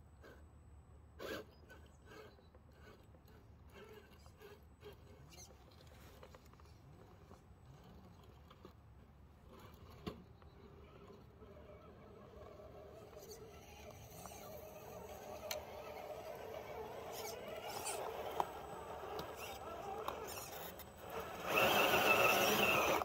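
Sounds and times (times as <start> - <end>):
faint rustling and scraping: 1.7 - 23.0.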